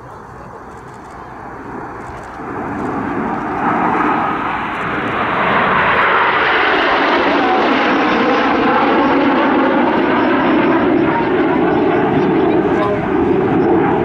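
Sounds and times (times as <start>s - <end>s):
airplane flying past: 0.0s - 14.0s.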